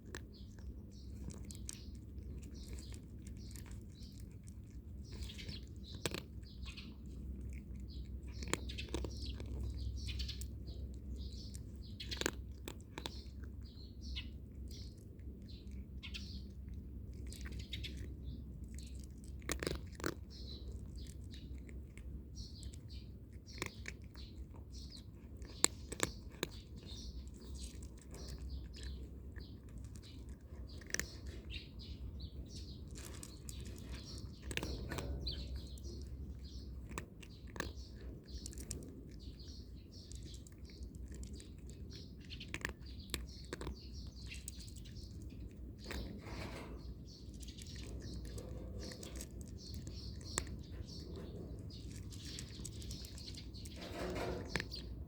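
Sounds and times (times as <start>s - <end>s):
cat crunching dry kibble: 0.0s - 55.0s.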